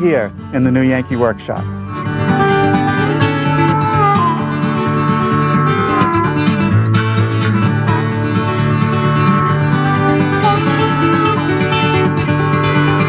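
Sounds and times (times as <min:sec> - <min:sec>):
plucked guitar music: 0:00.0 - 0:13.0.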